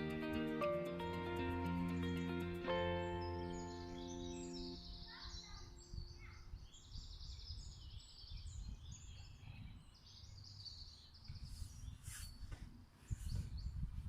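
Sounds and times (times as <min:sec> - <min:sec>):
birds chirping in trills: 0:00.0 - 0:12.0.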